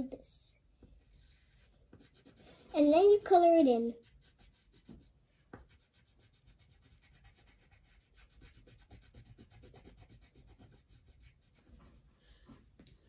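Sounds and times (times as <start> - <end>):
pencil scratching on paper: 1.0 - 12.1.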